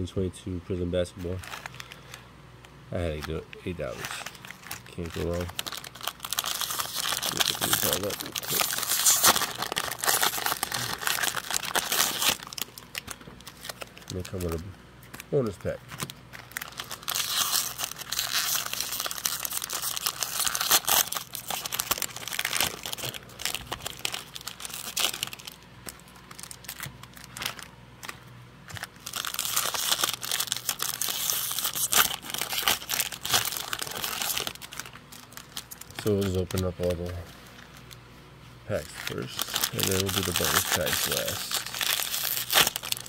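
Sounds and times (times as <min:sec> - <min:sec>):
plastic wrappers crinkling: 0:01.2 - 0:02.2, 0:03.1 - 0:38.0, 0:38.7 - 0:43.0.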